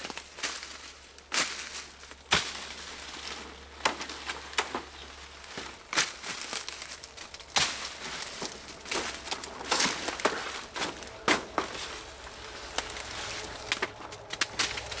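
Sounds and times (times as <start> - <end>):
dry stalks cracking: 0.0 - 15.0
undergrowth rustling: 0.0 - 15.0.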